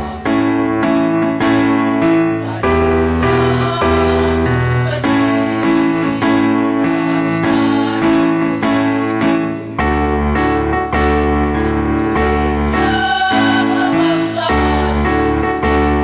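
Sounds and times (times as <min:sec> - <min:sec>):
electric keyboard chords: 0:00.0 - 0:16.0
women's choir singing: 0:00.0 - 0:16.0.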